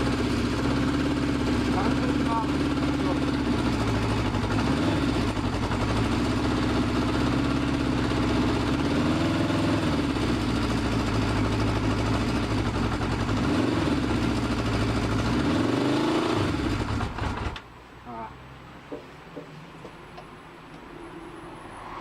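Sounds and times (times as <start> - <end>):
motorcycle engine running and revving: 0.0 - 17.6.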